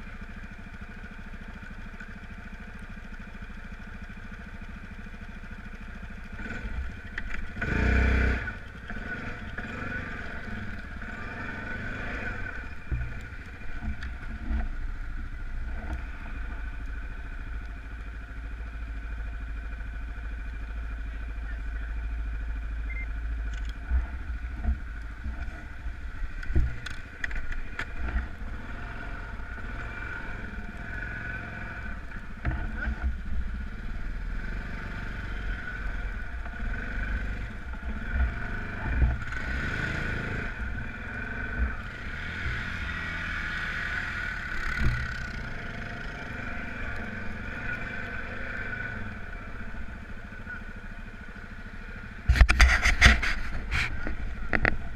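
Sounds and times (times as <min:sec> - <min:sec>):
off-road vehicle engine running: 0:00.0 - 0:54.9.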